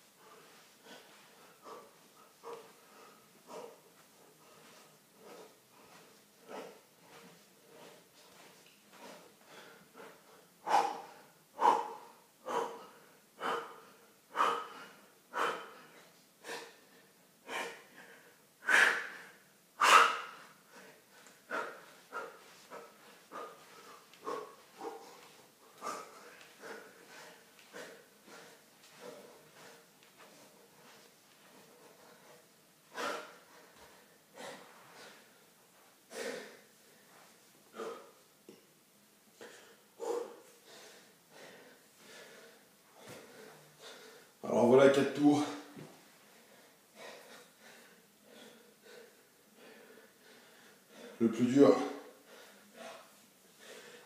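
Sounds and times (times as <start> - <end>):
man breathing hard: 0.1 - 38.3, 39.4 - 44.4, 45.3 - 51.2, 51.8 - 54.0.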